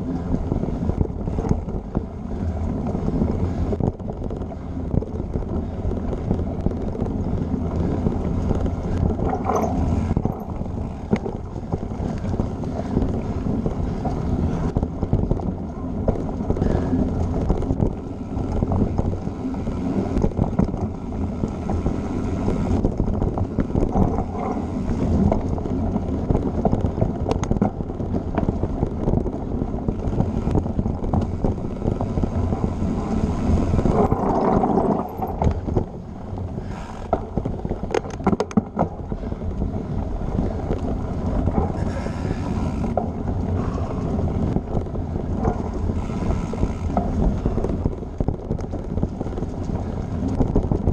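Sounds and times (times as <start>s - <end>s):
bike tyres rolling on dirt: 0.0s - 50.9s
bike knocks and rattles: 0.4s - 50.9s.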